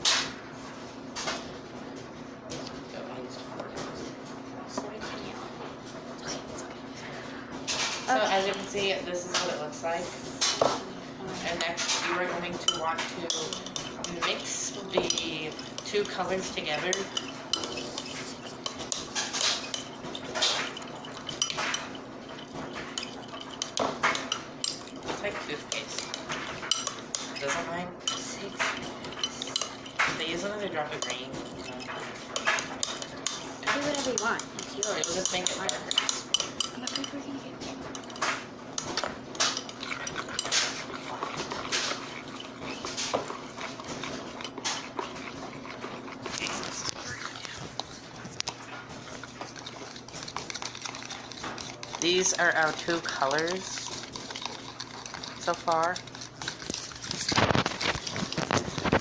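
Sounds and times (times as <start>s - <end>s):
utensils scraping mixing bowls: 0.0s - 59.0s.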